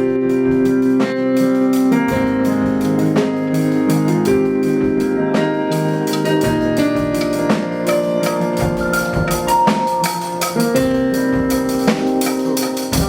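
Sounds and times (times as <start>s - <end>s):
drum kit beat: 0.0s - 13.0s
sustained keyboard chords: 0.0s - 13.0s.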